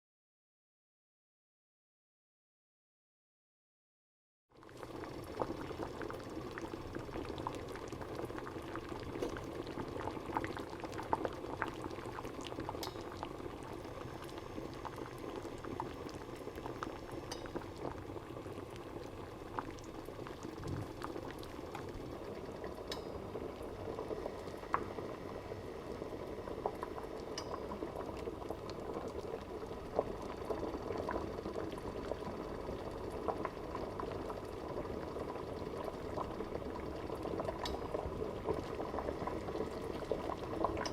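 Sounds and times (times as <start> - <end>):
water boiling and bubbling: 4.5 - 40.9.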